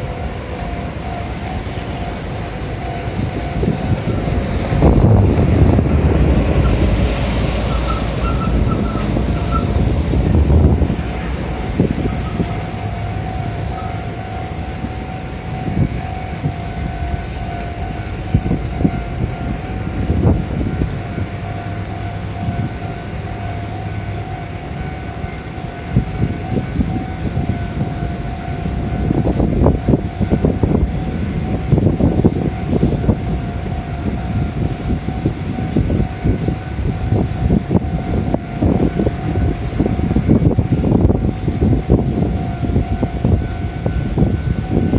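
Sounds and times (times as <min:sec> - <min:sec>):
wind buffeting microphone: 0:00.0 - 0:23.2, 0:24.7 - 0:44.9
heavy vehicles rumbling: 0:00.0 - 0:44.9
level crossing warning tone: 0:00.0 - 0:44.9.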